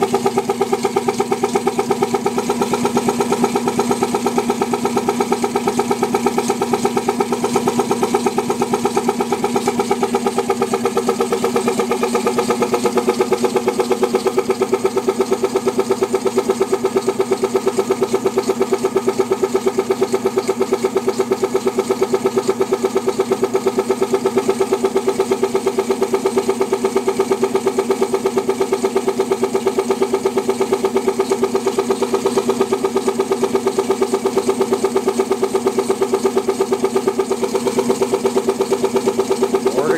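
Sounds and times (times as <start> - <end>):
vacuum pump piston beat: 0.0 - 39.9.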